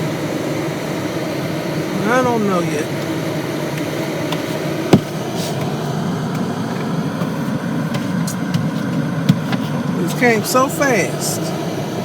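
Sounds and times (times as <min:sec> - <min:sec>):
car engine and road rumble: 0:01.6 - 0:12.0.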